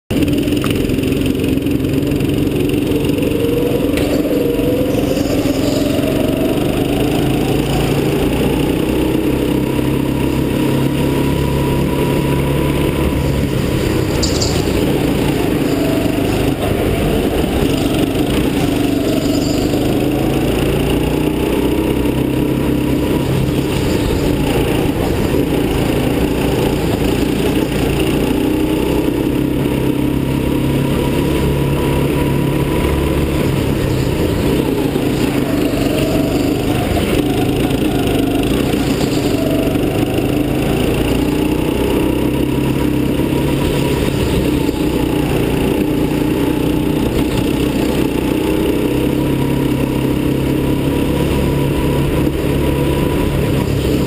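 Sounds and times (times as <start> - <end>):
go-kart engine revving: 0.1 - 54.0.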